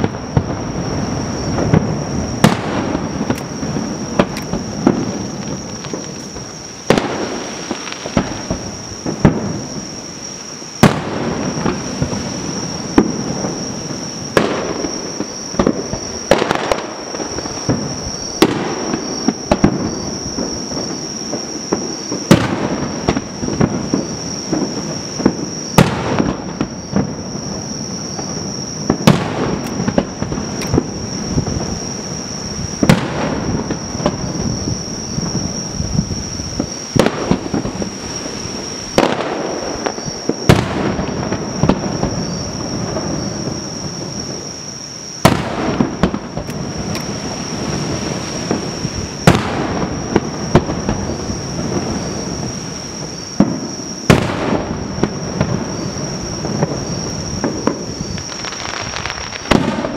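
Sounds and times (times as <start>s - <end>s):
firework shells booming: 0.0s - 44.5s, 45.1s - 59.9s
rolling echo and crackle: 0.0s - 59.9s.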